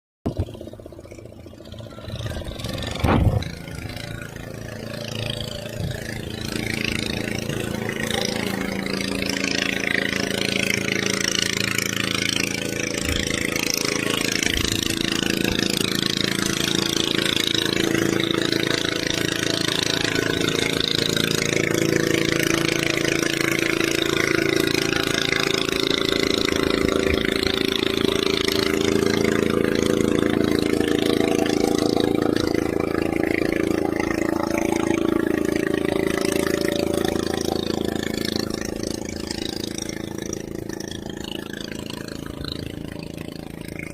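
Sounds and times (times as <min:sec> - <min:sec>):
engine running: 0:00.2 - 0:43.9.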